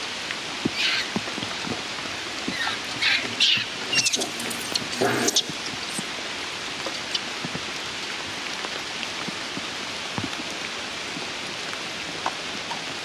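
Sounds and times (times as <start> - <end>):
rain falling on stone and leaves: 0.0 - 13.0.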